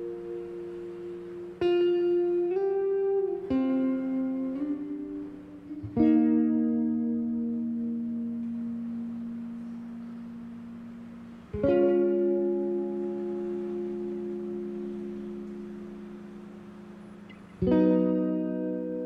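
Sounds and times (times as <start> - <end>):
clean electric guitar chords: 0.0 - 19.0.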